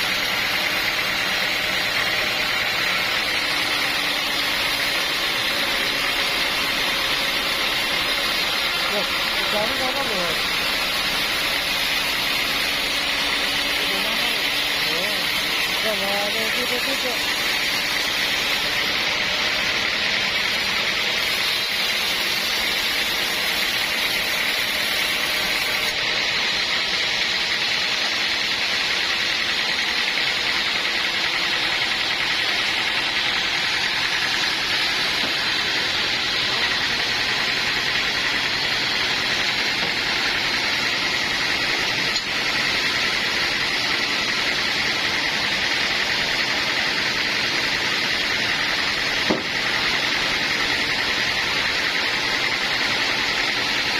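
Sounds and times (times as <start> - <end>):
sawmill hiss: 0.0 - 53.9.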